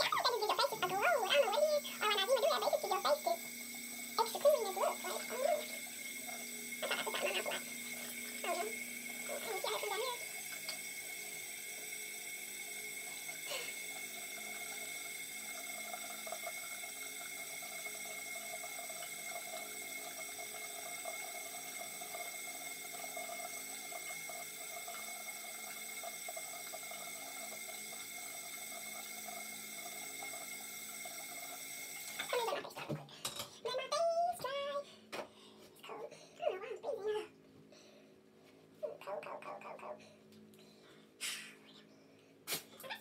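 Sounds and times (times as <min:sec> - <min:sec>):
tap water running into sink: 0:00.0 - 0:35.4.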